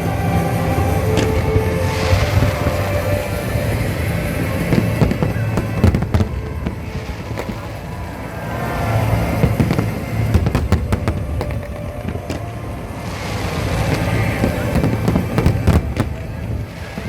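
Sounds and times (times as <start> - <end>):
fireworks bangs: 0.0 - 17.0
fireworks low rumble: 0.0 - 17.0.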